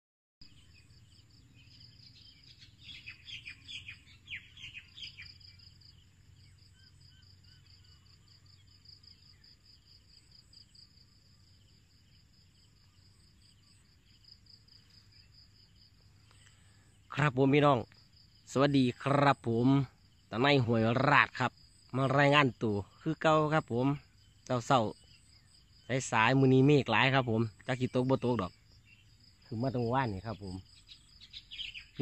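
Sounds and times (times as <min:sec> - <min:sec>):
bird chirping: 0:00.4 - 0:32.0
high insect trill: 0:00.5 - 0:32.0.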